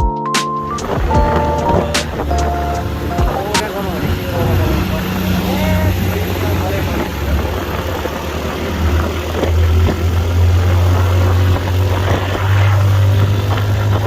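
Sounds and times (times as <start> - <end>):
rushing noise: 0.8 - 14.0
motorcycle engine running: 1.0 - 14.0.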